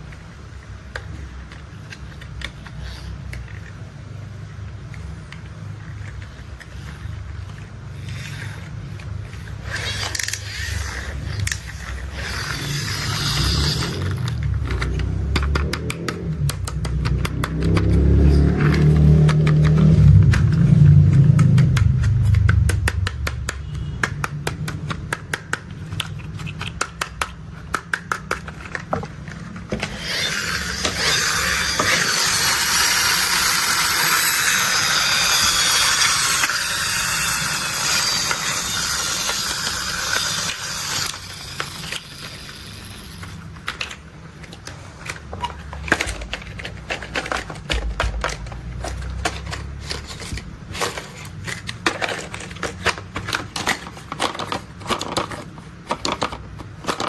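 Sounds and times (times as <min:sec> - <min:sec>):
plastic toys clicking and tapping: 0:00.0 - 0:57.0.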